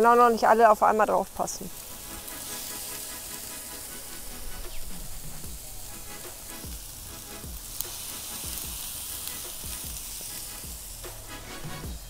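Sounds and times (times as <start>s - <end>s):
chicken skin sizzling on grill: 0.0s - 12.0s.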